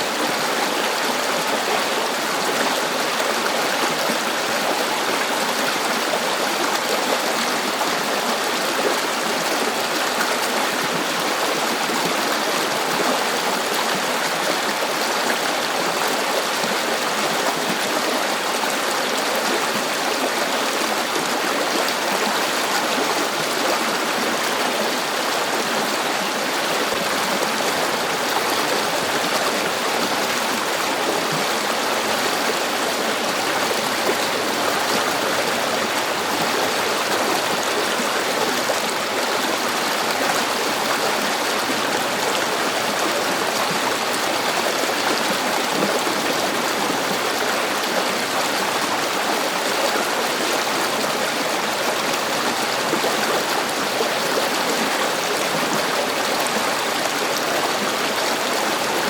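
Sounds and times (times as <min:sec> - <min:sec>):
stream rushing and babbling: 0:00.0 - 0:59.0.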